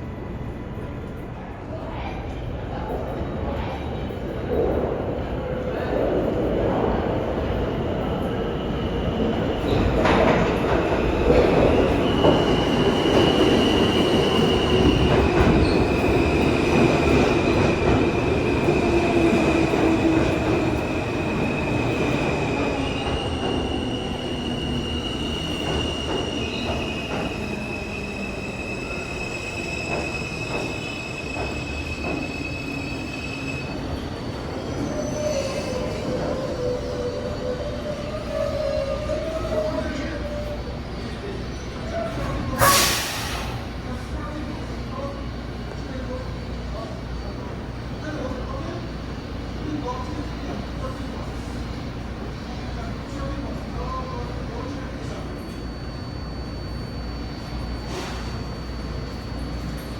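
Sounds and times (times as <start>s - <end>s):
train wheels rumbling on rail: 1.1s - 53.8s.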